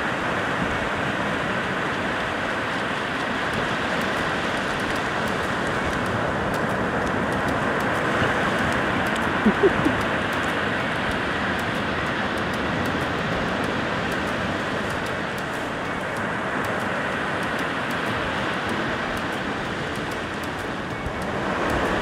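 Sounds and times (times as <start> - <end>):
surf washing over sand: 0.0 - 22.0.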